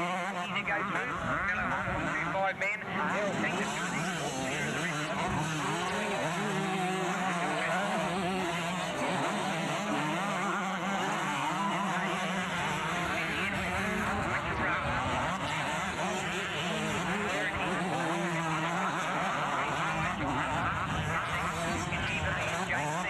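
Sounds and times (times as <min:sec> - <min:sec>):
motocross bikes revving: 0:00.0 - 0:23.0.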